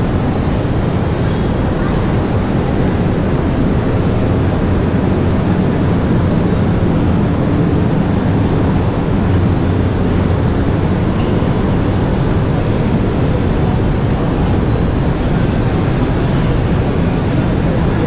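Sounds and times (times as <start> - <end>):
shopping mall ambience rumble: 0.0 - 18.0.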